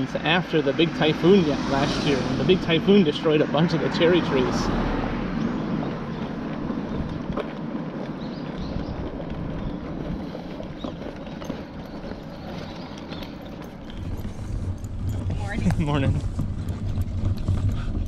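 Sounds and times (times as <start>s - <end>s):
stroller wheels rolling on pavement: 0.0s - 18.0s
footsteps: 1.0s - 18.0s.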